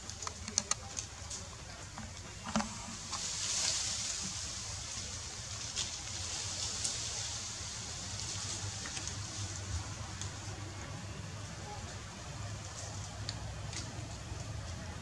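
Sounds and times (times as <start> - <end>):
steady hiss: 1.7 - 15.0.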